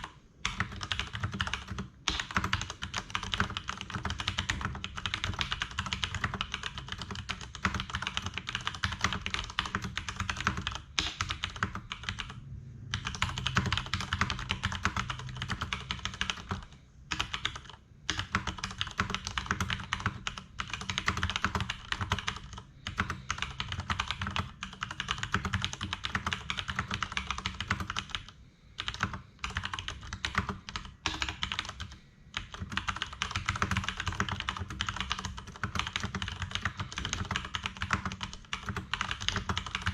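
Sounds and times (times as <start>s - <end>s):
mechanical keyboard typing clicks: 0.0s - 12.4s, 13.0s - 39.9s.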